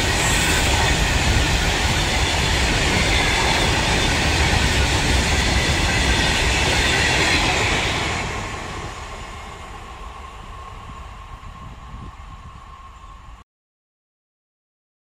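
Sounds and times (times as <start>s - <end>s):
freight train wheels on rails: 0.0s - 13.4s.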